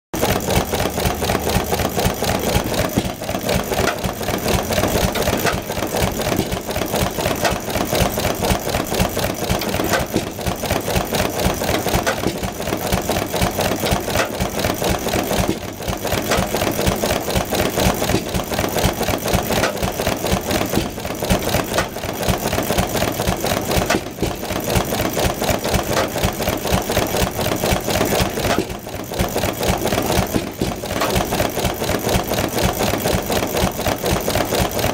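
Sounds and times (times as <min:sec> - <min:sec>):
stationary engine ticking: 0:00.2 - 0:34.9.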